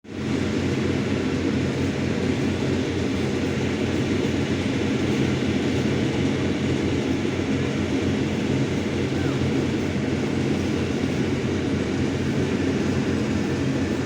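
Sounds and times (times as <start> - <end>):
low engine rumble: 0.1 - 14.0.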